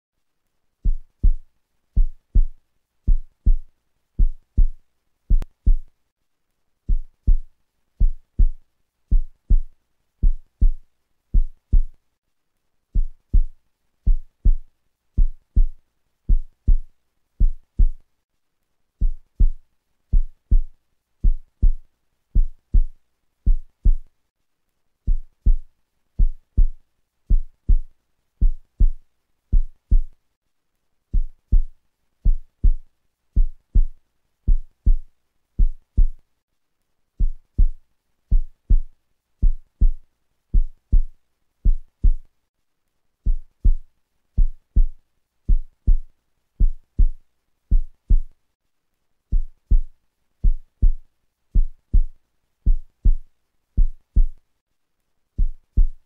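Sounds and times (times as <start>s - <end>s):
heartbeat thumps: 0.8s - 5.9s, 6.9s - 12.0s, 12.9s - 18.0s, 19.0s - 24.1s, 25.1s - 30.2s, 31.1s - 32.8s, 33.4s - 36.2s, 37.2s - 42.3s, 43.2s - 48.4s, 49.3s - 54.4s, 55.4s - 56.0s.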